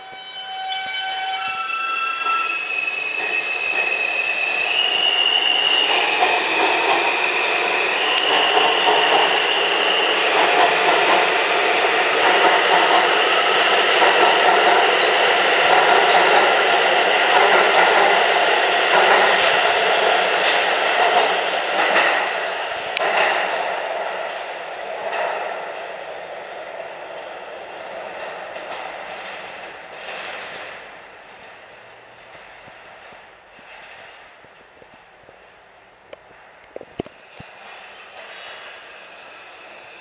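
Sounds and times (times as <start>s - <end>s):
train cars running on rails: 0.0s - 40.0s.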